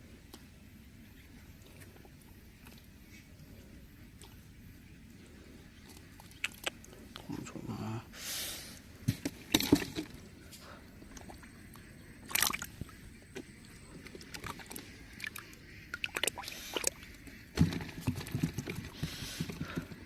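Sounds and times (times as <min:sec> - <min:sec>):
water splashing and sloshing: 0:01.4 - 0:07.4, 0:08.8 - 0:20.0.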